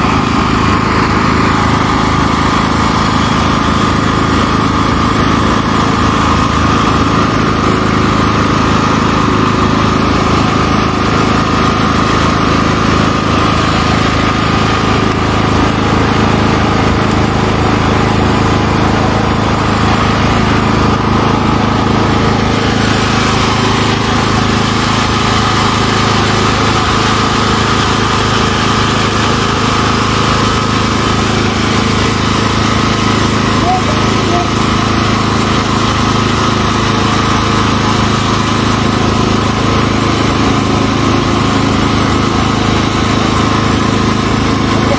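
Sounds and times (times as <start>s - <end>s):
machinery engine drone: 0.0s - 44.9s.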